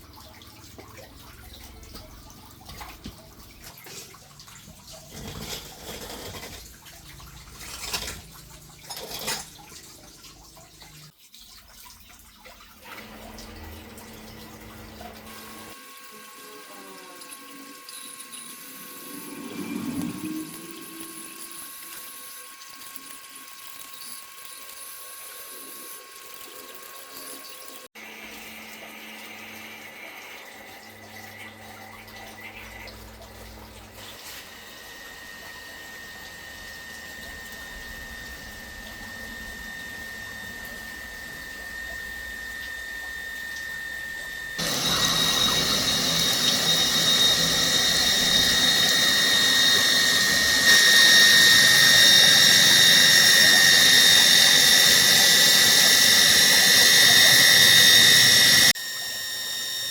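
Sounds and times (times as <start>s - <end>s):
water pump motor whining: 0.0s - 11.1s, 12.8s - 59.9s
water flowing: 0.0s - 59.9s.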